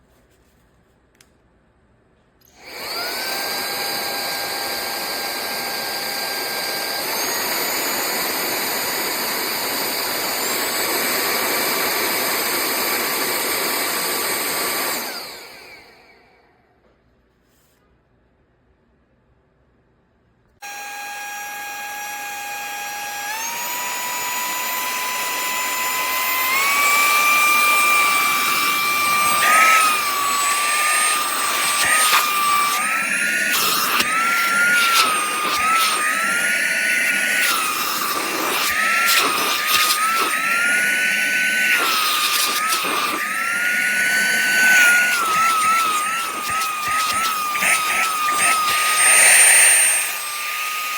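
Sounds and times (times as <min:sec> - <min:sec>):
handheld vacuum motor whine: 0:02.4 - 0:16.6, 0:20.6 - 0:50.9.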